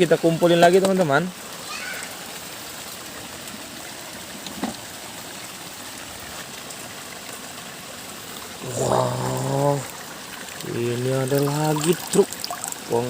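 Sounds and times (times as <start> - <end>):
rain falling: 0.0 - 13.0
water running: 0.0 - 13.0.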